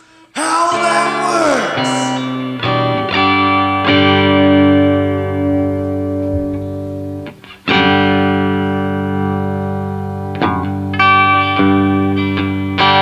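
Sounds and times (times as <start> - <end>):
electric guitar notes picked: 0.4 - 13.0
electric guitar chord ringing: 0.5 - 13.0.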